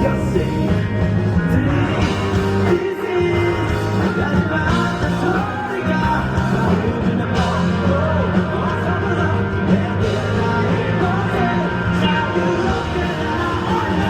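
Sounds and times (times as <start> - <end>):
man singing lead vocal: 0.0 - 14.0
rock band playing: 0.0 - 14.0.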